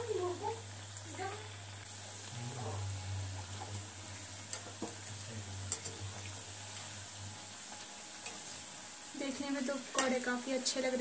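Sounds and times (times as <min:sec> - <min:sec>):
oil sizzling while deep-frying: 0:00.0 - 0:11.0.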